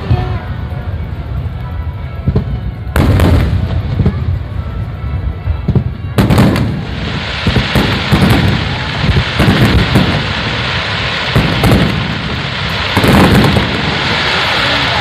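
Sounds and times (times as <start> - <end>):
firework bursts: 0.0 - 15.0
firework crackling: 0.0 - 15.0
low booming: 2.2 - 14.7.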